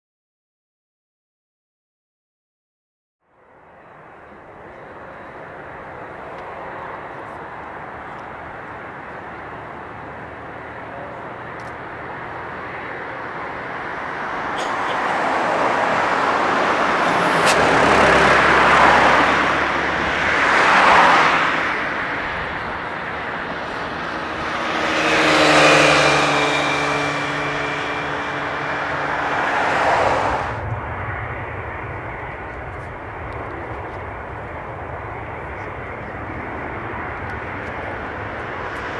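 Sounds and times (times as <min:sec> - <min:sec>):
motor vehicles passing: 0:03.4 - 0:38.9.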